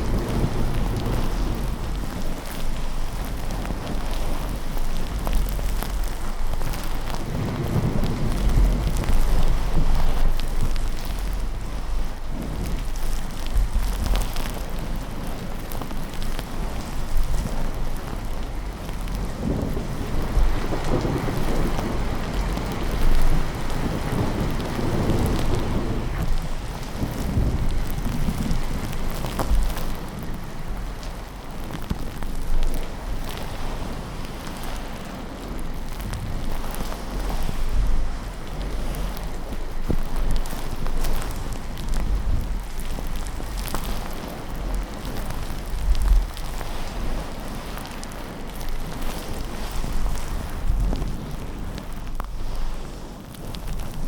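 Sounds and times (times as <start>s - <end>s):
low thunder rumble: 0.0s - 52.6s
steady rain falling: 0.0s - 54.0s.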